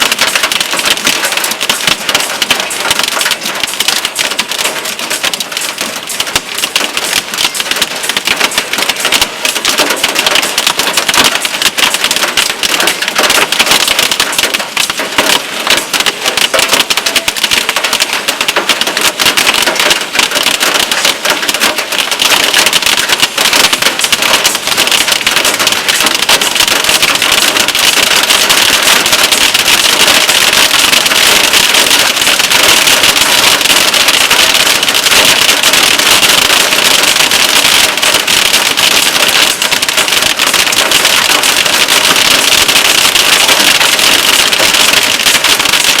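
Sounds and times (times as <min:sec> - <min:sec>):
rain and hail pelting down: 0:00.0 - 0:46.0.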